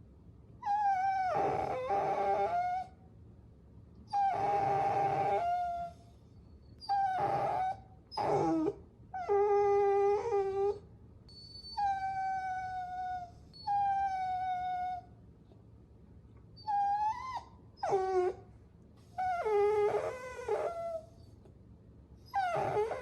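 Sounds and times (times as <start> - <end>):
puppy whining: 0.6 - 3.0, 4.1 - 15.2, 16.5 - 21.5, 22.2 - 23.0.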